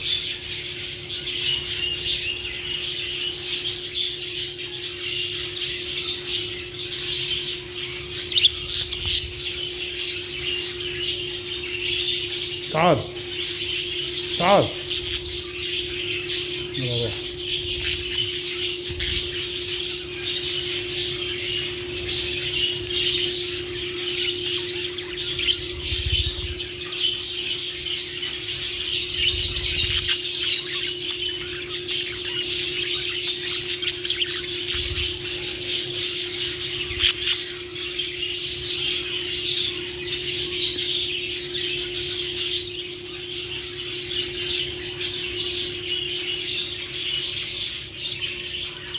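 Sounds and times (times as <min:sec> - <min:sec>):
lovebirds chattering and squawking: 0:00.0 - 0:48.9.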